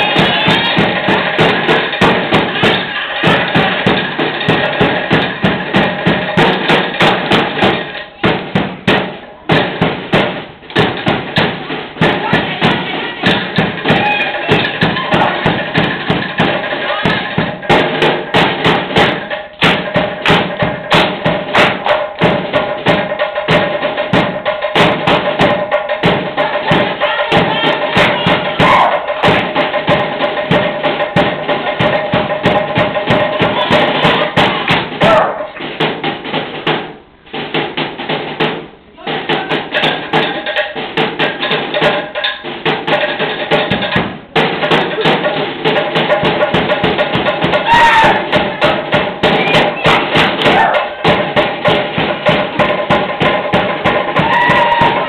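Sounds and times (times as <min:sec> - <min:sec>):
fast drumbeat: 0:00.0 - 0:55.0.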